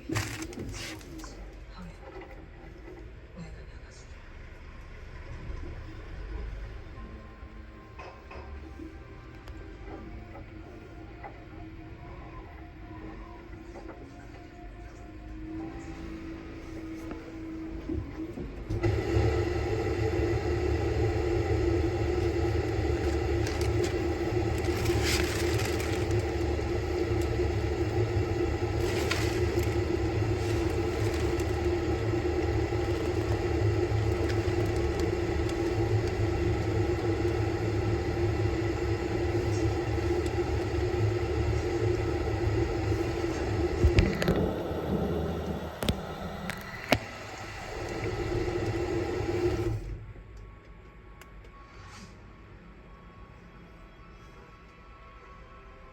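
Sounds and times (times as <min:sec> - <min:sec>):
washing machine motor hum: 0:00.0 - 0:03.3, 0:05.0 - 0:50.2.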